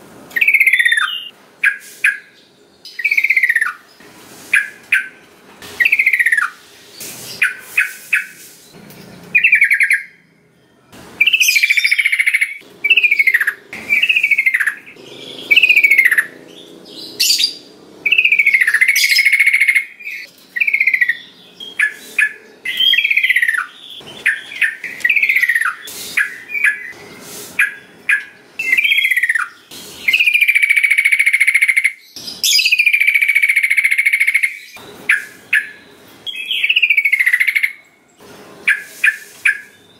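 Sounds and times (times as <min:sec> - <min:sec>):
bulbul singing: 0:00.3 - 0:04.0, 0:05.8 - 0:37.8.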